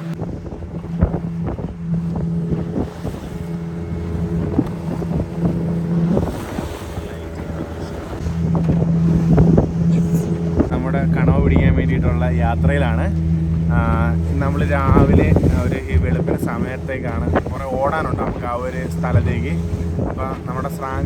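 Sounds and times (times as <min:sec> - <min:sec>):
boat engine running: 0:00.0 - 0:21.0
water splashing against hull: 0:00.0 - 0:21.0
wind buffeting microphone: 0:00.0 - 0:21.0.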